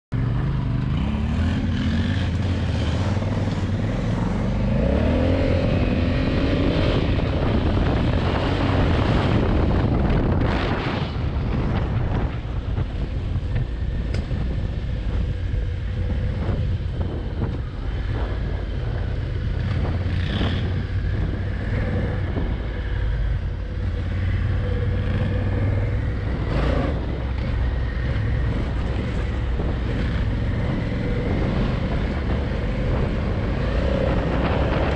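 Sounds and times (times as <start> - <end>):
motorcycle engine running: 0.1 - 34.9
wind buffeting microphone: 1.6 - 34.9.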